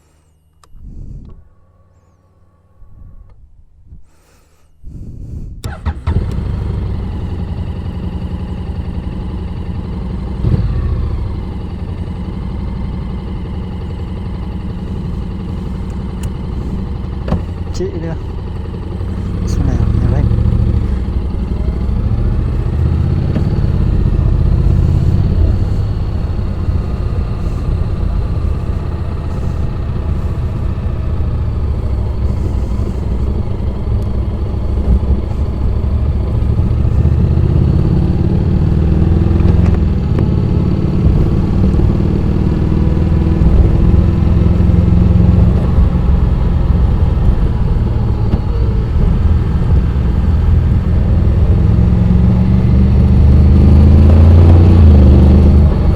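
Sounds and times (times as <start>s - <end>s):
motorcycle engine running: 5.6s - 55.9s.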